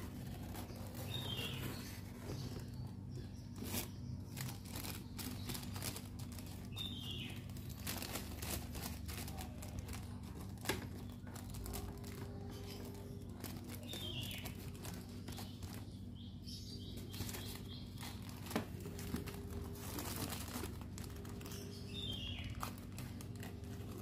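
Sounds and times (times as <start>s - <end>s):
crinkling and rustling: 0.0s - 24.0s
low steady hum: 0.0s - 24.0s
bird chirping: 0.2s - 8.2s, 11.0s - 23.6s.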